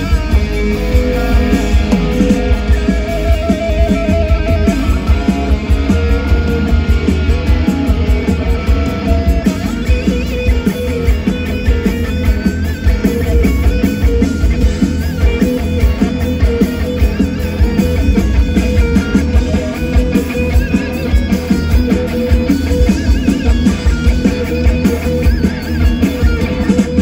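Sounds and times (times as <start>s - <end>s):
lead guitar bent notes: 0.0s - 27.0s
pop-rock band playing: 0.0s - 27.0s.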